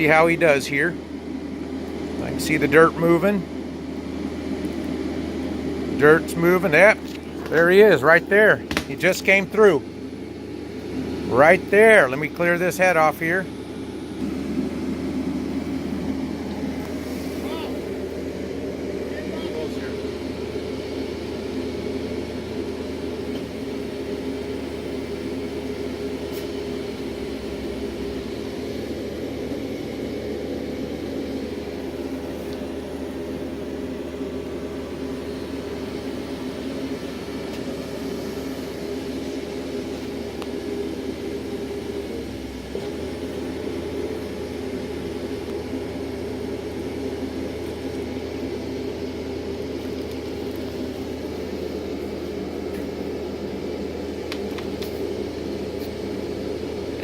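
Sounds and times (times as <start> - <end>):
drilling rig engine droning: 0.0 - 57.0
low hum: 0.0 - 57.0.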